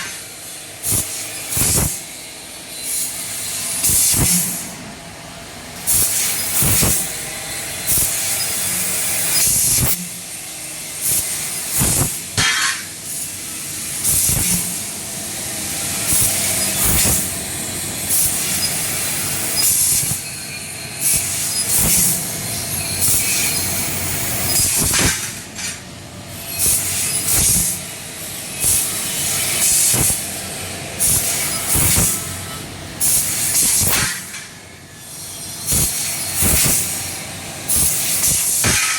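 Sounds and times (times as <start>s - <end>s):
laser cutter gas hissing: 0.0s - 4.8s, 5.8s - 38.9s.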